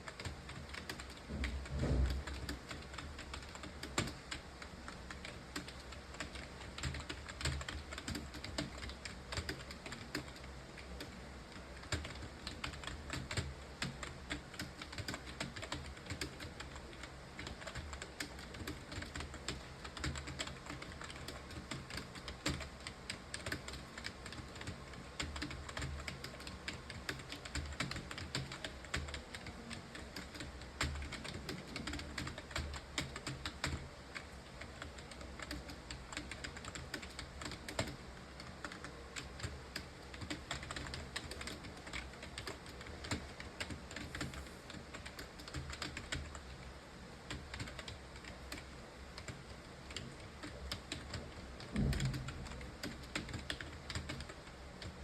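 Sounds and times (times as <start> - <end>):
fast keyboard typing: 0.0 - 46.6, 47.3 - 55.0.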